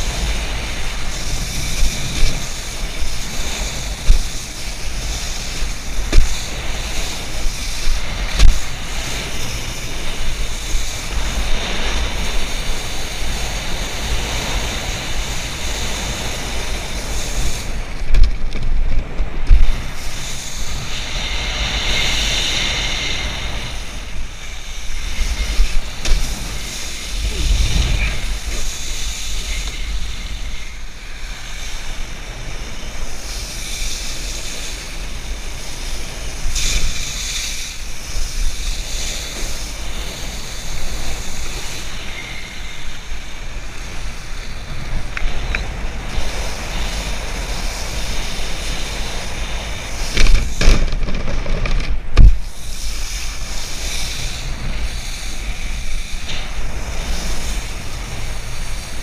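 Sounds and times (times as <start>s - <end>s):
wakeboard spraying across water: 0.0s - 59.0s
wind buffeting microphone: 0.0s - 59.0s.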